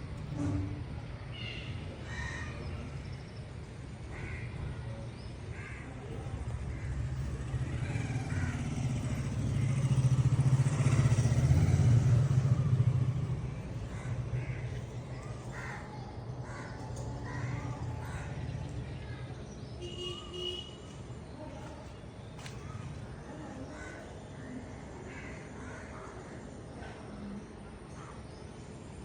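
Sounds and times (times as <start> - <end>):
passing vehicle engine rumble: 0.0 - 27.4.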